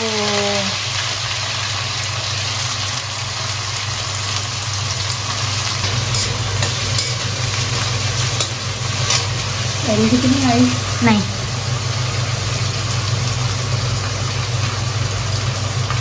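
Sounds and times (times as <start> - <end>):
low mechanical hum: 0.0 - 16.0
potatoes sizzling in oil: 0.0 - 16.0.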